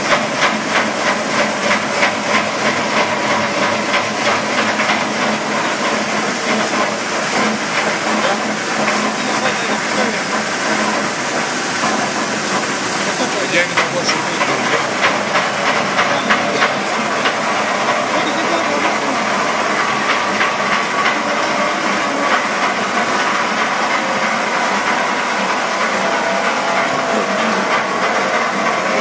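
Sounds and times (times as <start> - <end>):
circular saw cutting steel: 0.0 - 29.0.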